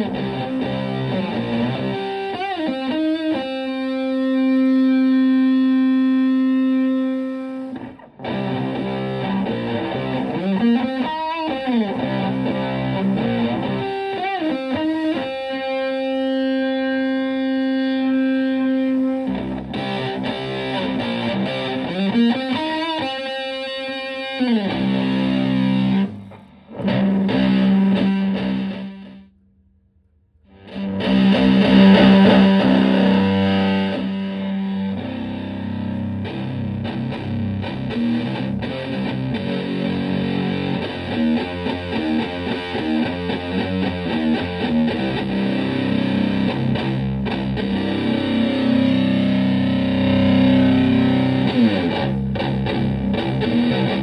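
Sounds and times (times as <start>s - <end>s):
fuzz-distorted electric guitar: 0.0s - 29.3s, 30.5s - 54.0s.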